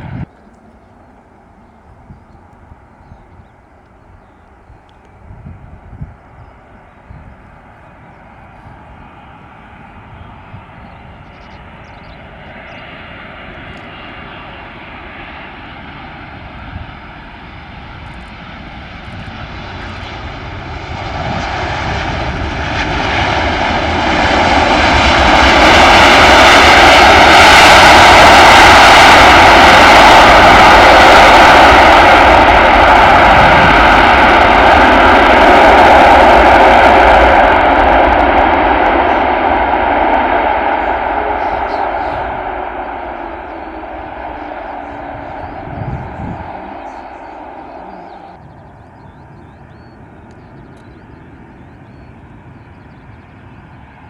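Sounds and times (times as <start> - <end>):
jet airliner passing: 0.0 - 54.0
multi-tone engine whine: 0.0 - 54.0.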